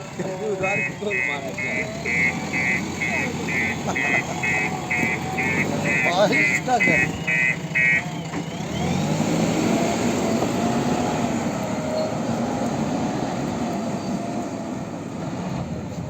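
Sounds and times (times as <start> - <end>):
heavy vehicle engine running: 0.0 - 16.0.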